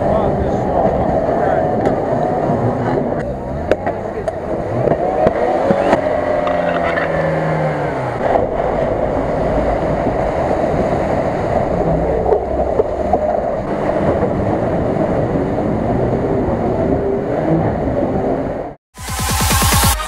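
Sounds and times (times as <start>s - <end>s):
splashing water: 0.0s - 18.2s
off-road engines revving: 0.0s - 18.8s.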